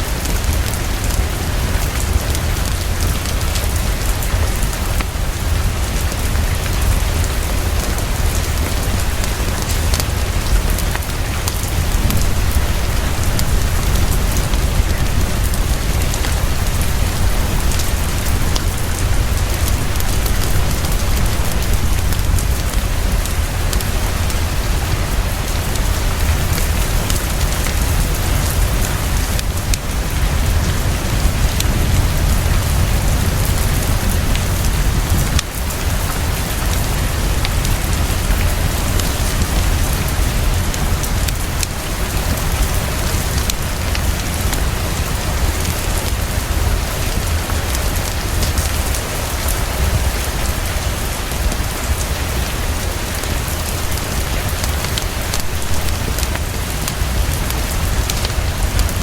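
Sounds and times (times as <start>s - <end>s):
heavy rainfall: 0.0s - 59.0s.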